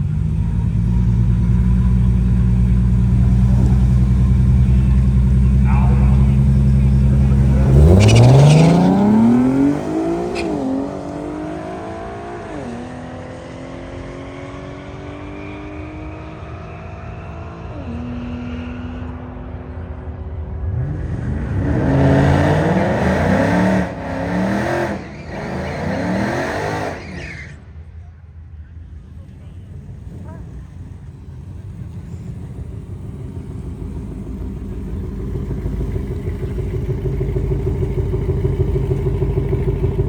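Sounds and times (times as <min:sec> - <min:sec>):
car engine revving at full throttle: 0:00.0 - 0:27.4, 0:29.7 - 0:40.0
engine accelerating hard with upshifts: 0:00.0 - 0:27.4, 0:29.2 - 0:40.0.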